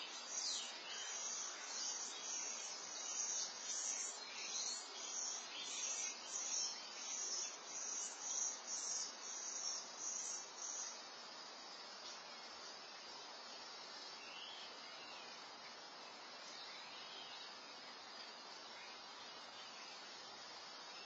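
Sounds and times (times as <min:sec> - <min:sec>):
faint outdoor hiss: 0:00.0 - 0:21.0
insect trilling and chirping: 0:00.0 - 0:21.0.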